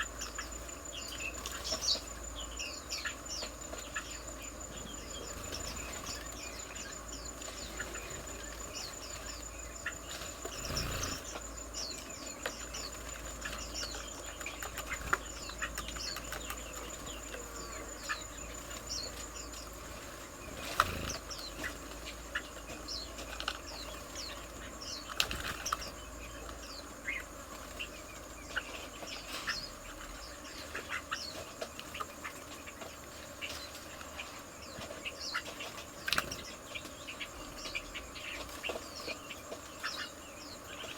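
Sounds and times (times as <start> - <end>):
high insect whine: 0.0 - 40.9
small birds chirping: 0.0 - 40.9
wing flutters: 4.8 - 29.7, 30.4 - 40.1.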